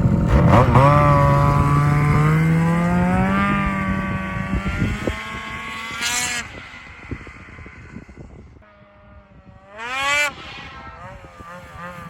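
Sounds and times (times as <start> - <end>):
snowmobile engine pulling away: 0.0 - 8.2, 9.6 - 12.0.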